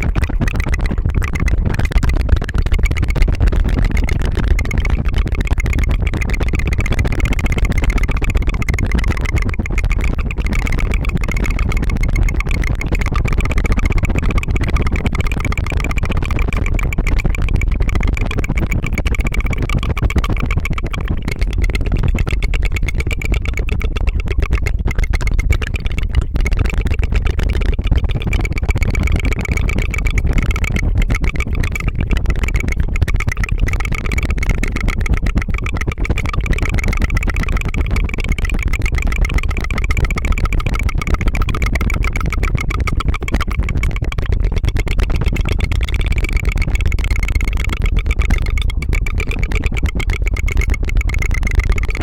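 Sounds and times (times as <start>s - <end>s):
tongue trill: 0.0s - 52.0s.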